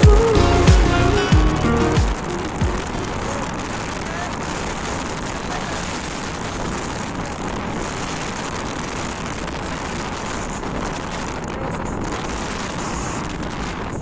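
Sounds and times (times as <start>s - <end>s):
strong wind on microphone: 2.0s - 14.0s.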